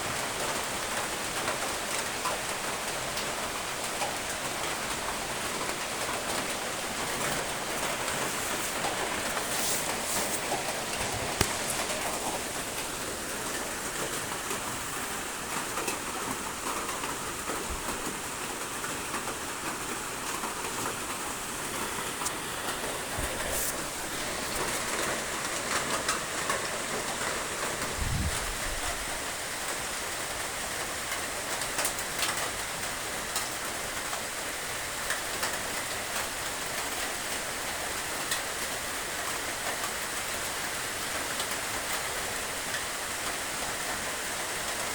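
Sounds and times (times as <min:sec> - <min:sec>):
rain pattering on a surface: 0:00.0 - 0:44.9.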